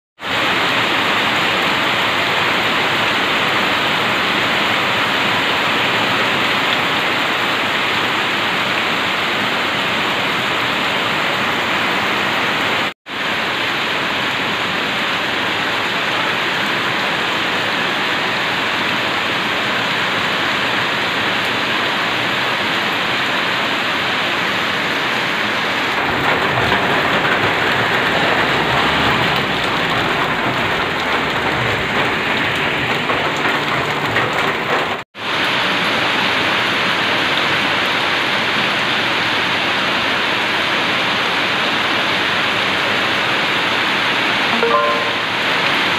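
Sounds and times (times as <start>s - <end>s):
heavy rain hissing: 0.2s - 44.5s.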